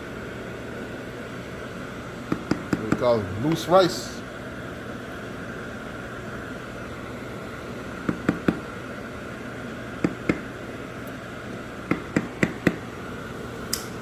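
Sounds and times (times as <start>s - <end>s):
fan hum: 0.0s - 14.0s.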